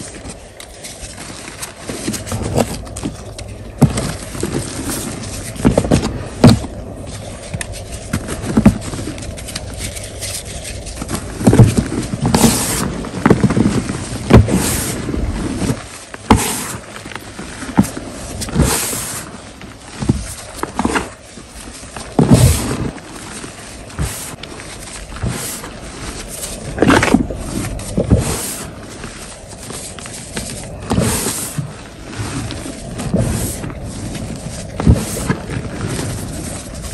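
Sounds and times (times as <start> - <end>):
chalk blocks crunching: 0.0 - 36.9.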